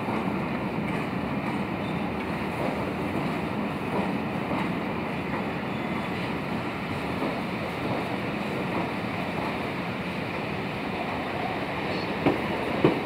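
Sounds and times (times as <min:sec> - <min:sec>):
train rumbling over points: 0:00.0 - 0:13.0.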